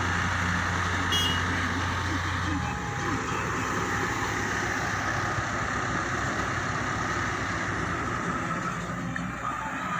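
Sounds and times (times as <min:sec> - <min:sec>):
diesel engine throbbing: 0:00.0 - 0:09.9.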